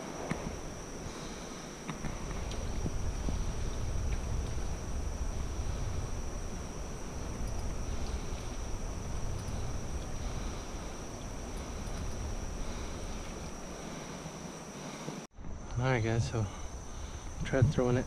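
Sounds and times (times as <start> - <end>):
low rumble on microphone: 2.0 - 14.2, 15.4 - 18.0.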